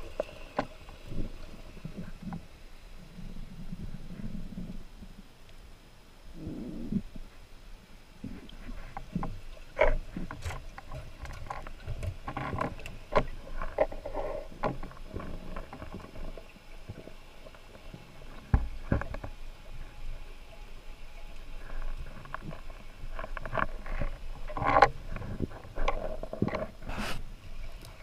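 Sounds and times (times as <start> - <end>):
low watery rumble: 0.0 - 28.0.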